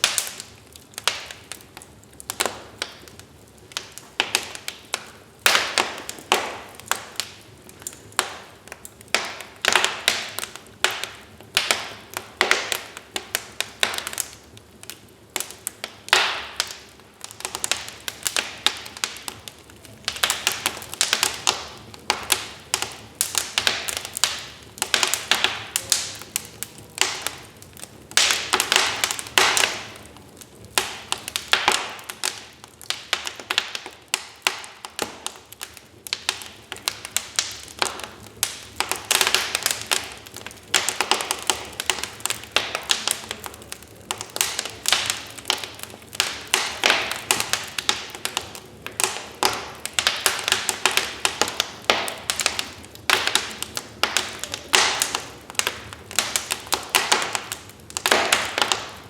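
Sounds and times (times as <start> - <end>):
low hiss of burning: 0.0 - 59.0
wood fire crackling and popping: 0.0 - 59.0.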